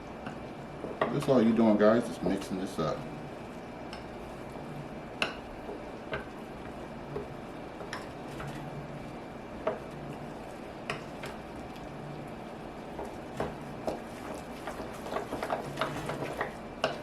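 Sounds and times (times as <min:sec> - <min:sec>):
utensil stirring batter: 0:00.2 - 0:17.0.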